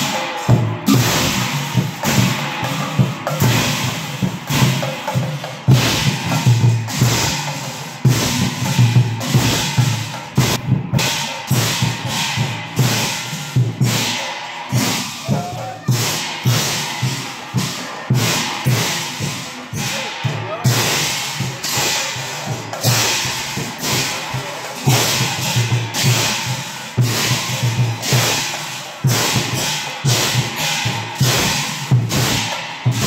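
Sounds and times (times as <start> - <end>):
brass hand cymbals clashing: 0.0 - 33.0
kettle drums beating: 0.0 - 33.0.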